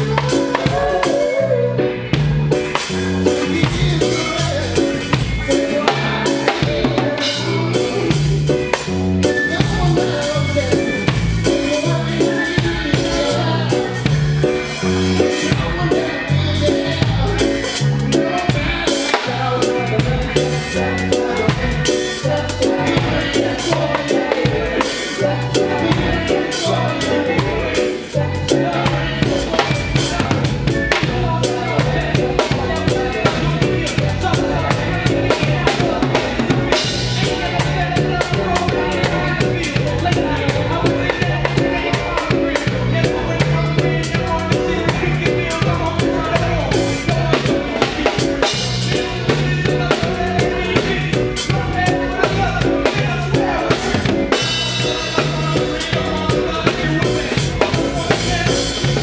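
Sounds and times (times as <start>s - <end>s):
drum kit groove: 0.0s - 59.0s
live band with electric guitar: 0.0s - 59.0s.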